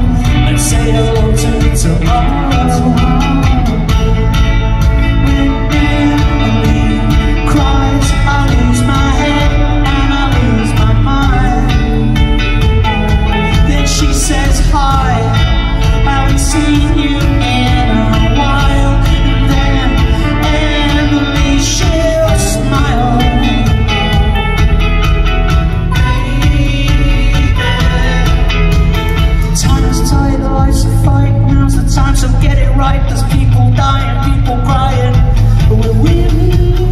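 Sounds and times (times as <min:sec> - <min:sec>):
live rock band playing: 0:00.0 - 0:36.9.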